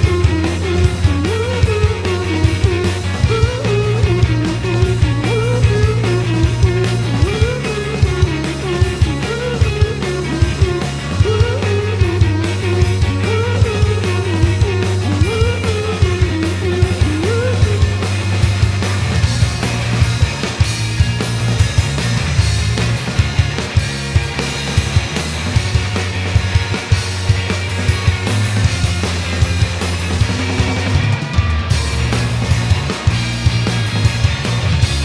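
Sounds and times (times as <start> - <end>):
rock band playing live: 0.0 - 35.0.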